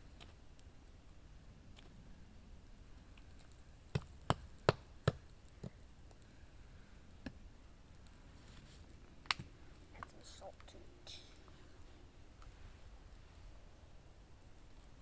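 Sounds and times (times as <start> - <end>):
low steady background: 0.0 - 15.0.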